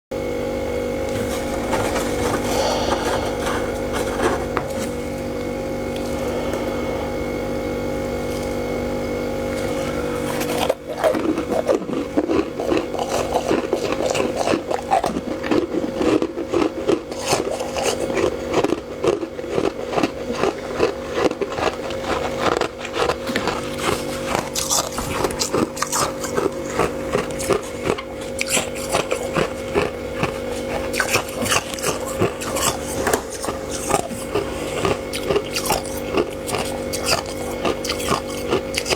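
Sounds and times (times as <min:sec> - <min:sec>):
steady hum: 0:00.2 - 0:38.9
frost crunching as chewed: 0:01.0 - 0:38.9.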